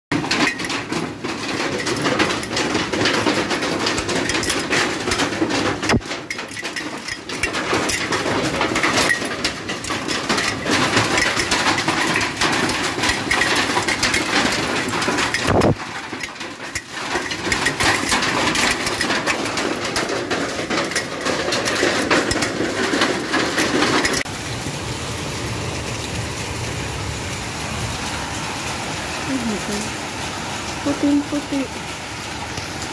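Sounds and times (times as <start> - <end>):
hailstones pelting down: 0.1 - 32.9.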